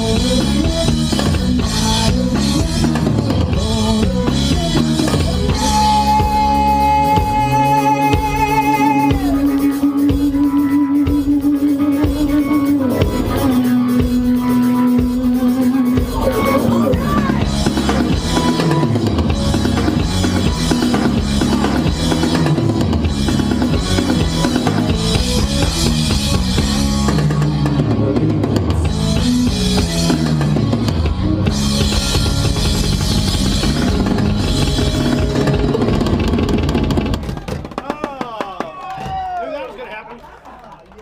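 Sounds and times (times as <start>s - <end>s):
bass line: 0.0s - 39.2s
live rock band playing: 0.0s - 39.2s
drum kit: 0.0s - 39.4s.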